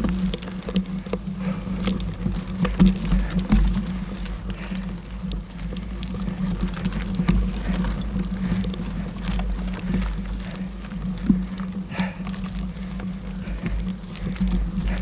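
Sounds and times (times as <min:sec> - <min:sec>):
bike clicking and rattling: 0:00.0 - 0:15.0
bike tyres rumbling on dirt: 0:00.0 - 0:15.0.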